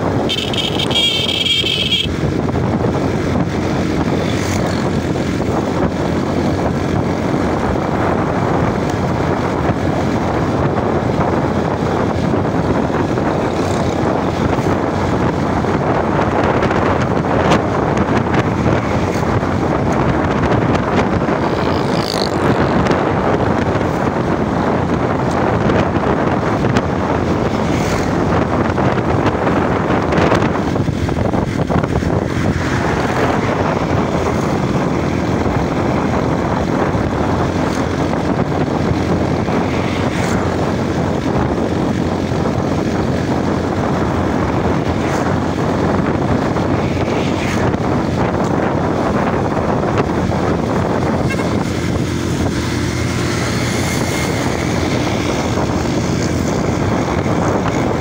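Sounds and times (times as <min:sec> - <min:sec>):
passenger train rushing rumble: 0:00.0 - 0:01.0, 0:02.0 - 0:58.0.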